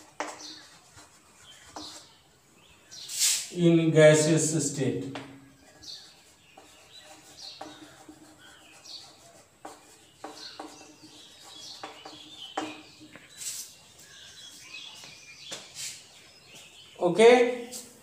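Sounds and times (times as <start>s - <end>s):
chalk writing on a chalkboard: 0.0s - 2.2s, 3.0s - 3.5s, 5.1s - 16.8s
birds chirping: 0.0s - 18.0s.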